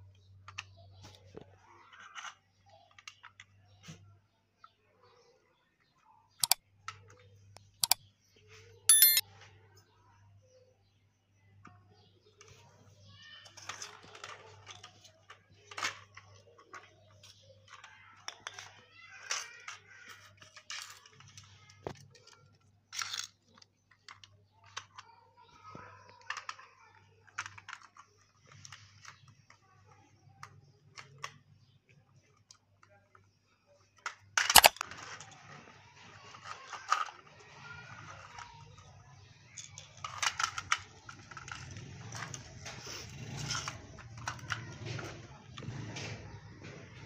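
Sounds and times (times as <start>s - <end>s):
plastic toy car rattling on concrete: 0.0s - 4.0s, 11.6s - 47.0s.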